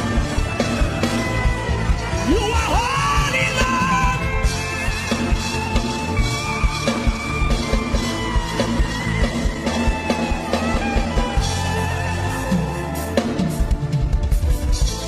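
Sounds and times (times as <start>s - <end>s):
instrumental gospel band music: 0.0s - 15.0s.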